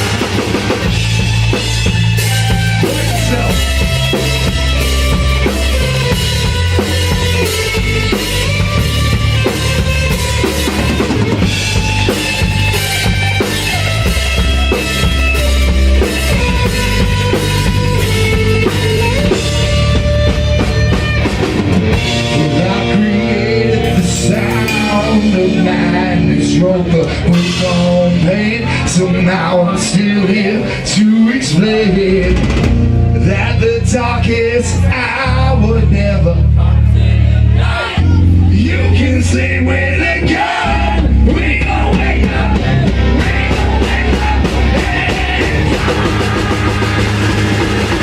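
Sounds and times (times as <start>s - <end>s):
drum kit pounding: 0.0s - 30.2s, 32.0s - 35.1s, 35.9s - 48.0s
hard rock music: 0.0s - 48.0s.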